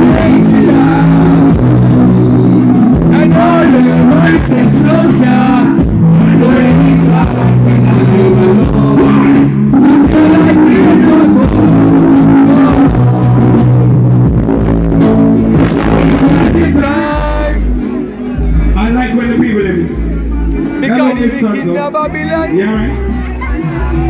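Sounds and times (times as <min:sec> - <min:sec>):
song with singing over heavy bass: 0:00.0 - 0:24.0.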